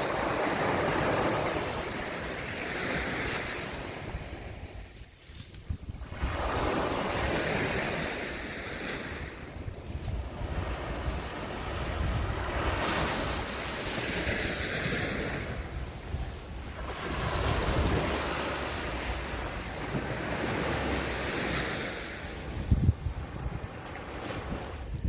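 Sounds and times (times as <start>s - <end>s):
sea waves washing onto shore: 0.0s - 25.0s
wind rumbling on microphone: 0.0s - 25.0s.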